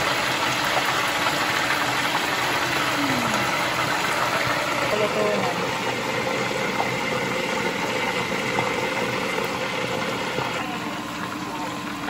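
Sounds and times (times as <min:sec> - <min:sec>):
chicken wings sizzling in hot oil: 0:00.0 - 0:12.0.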